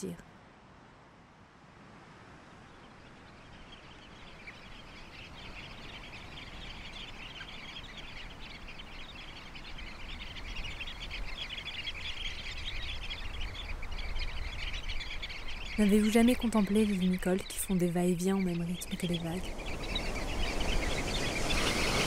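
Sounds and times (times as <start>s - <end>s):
shorebirds twittering: 2.6s - 22.0s.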